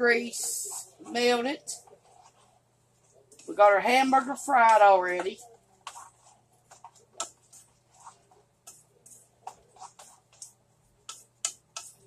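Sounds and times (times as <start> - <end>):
wooden spoon scraping frying pan: 0.0 - 2.7, 3.4 - 12.0.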